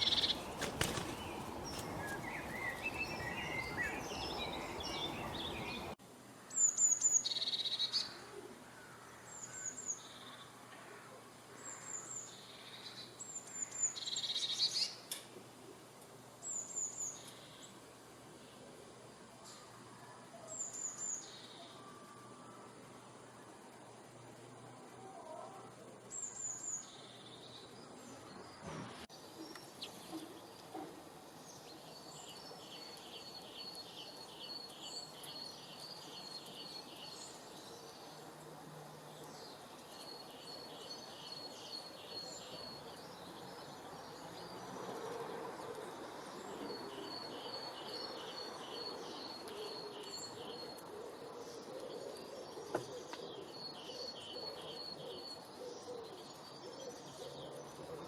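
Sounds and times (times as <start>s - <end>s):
outdoor ambience: 0.0s - 58.0s.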